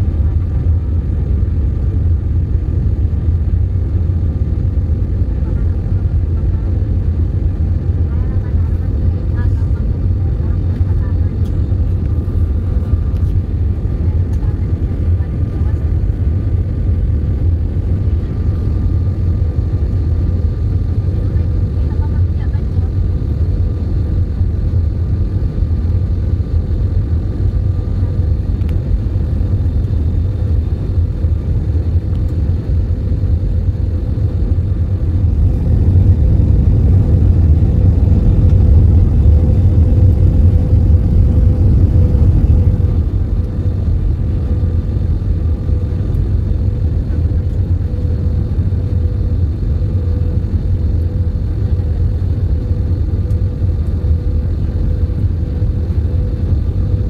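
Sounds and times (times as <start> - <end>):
faint steady whine: 0.0 - 57.0
low rumble of jet engines: 0.0 - 57.0.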